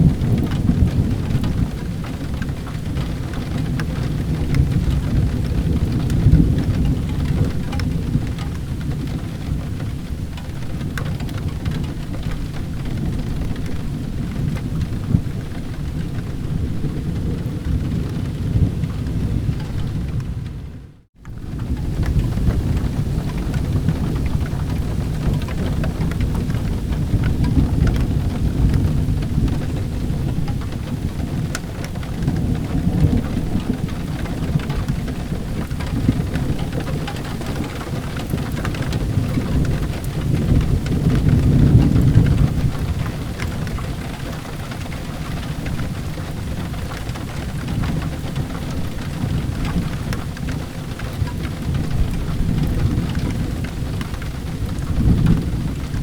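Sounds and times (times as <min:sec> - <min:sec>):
steady rain: 0:00.0 - 0:56.0
thunder rumbling: 0:00.0 - 0:56.0.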